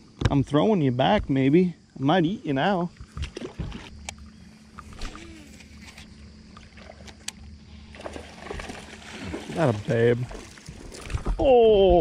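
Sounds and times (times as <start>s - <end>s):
boat engine low hum: 1.1s - 12.0s.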